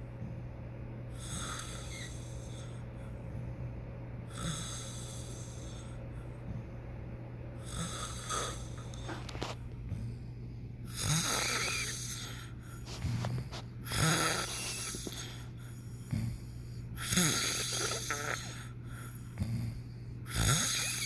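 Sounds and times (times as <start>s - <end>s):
steady low hum: 0.0s - 21.0s
hissy snoring: 1.1s - 3.2s, 4.2s - 6.7s, 7.6s - 10.2s, 10.8s - 21.0s.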